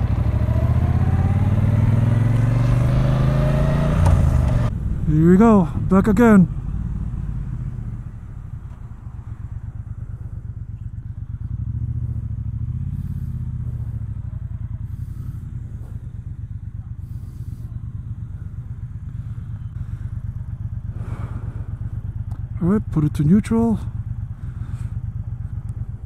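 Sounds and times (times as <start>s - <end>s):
motorcycle engine pulsing exhaust: 0.0s - 26.0s.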